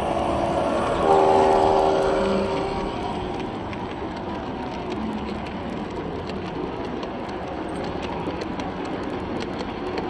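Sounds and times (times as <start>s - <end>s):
hall noise rumble: 0.0s - 10.0s
model train wheels clicking: 0.0s - 10.0s.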